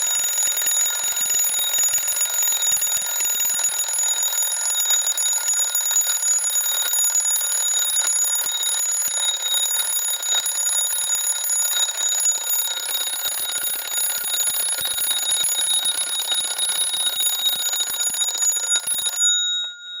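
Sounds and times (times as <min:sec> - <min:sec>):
alarm clock bell ringing: 0:00.0 - 0:20.0.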